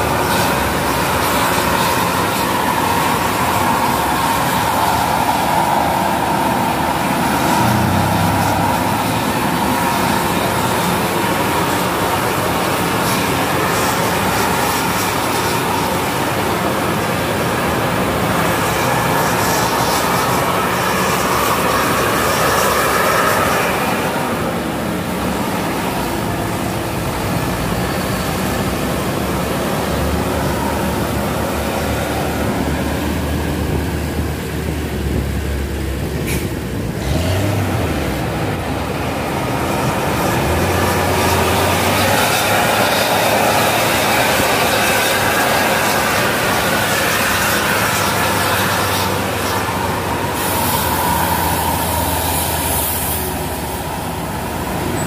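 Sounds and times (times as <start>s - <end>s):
vehicle rumble: 0.0s - 55.0s.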